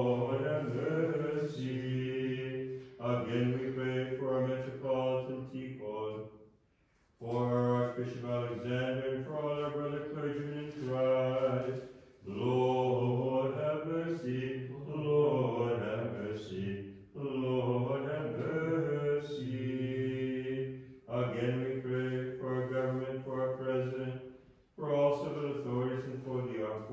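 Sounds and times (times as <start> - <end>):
low voice chanting: 0.0 - 6.2, 7.2 - 26.9.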